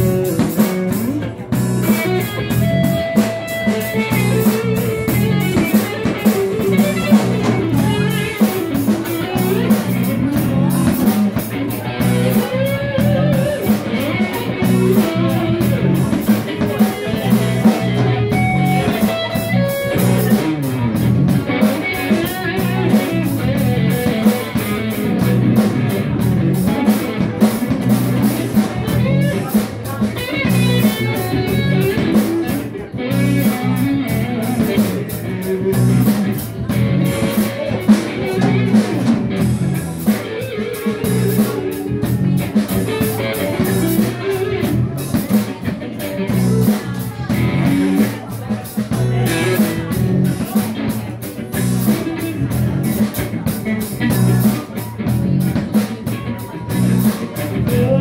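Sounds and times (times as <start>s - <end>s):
drum kit beat: 0.0s - 58.0s
electric bass: 0.0s - 58.0s
electric guitar: 0.0s - 58.0s.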